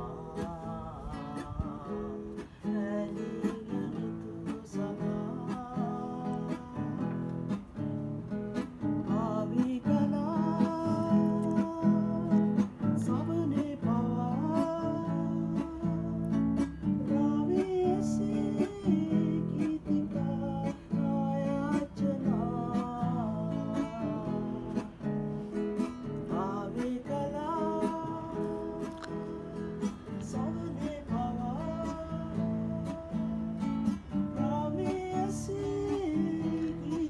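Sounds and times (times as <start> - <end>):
man singing: 0.0 - 7.8, 8.5 - 37.0
strummed classical guitar: 0.0 - 37.0.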